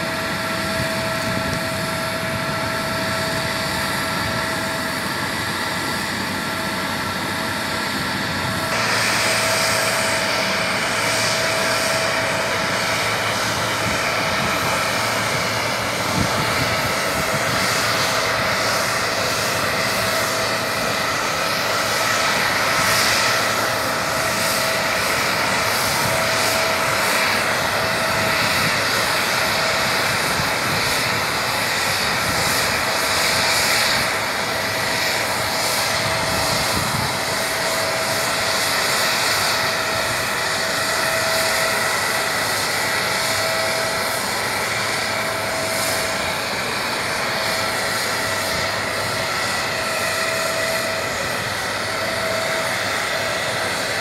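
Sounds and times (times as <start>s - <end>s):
aircraft turbine whine: 0.0s - 54.0s.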